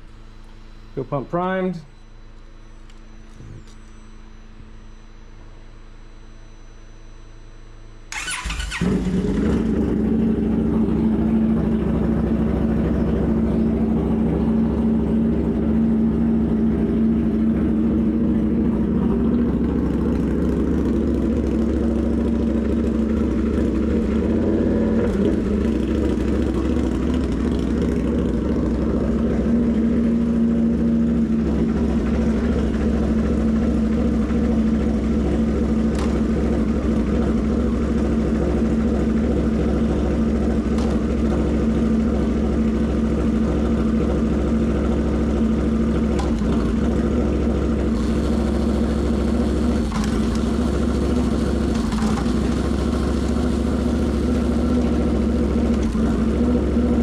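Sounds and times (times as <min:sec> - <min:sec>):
motorcycle engine idling: 0:08.1 - 0:57.0.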